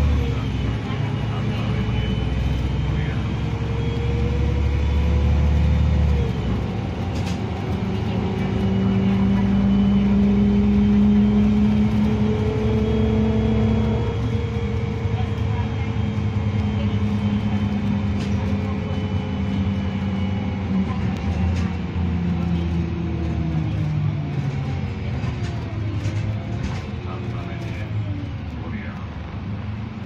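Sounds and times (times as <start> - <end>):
bus diesel engine droning: 0.0 - 30.0.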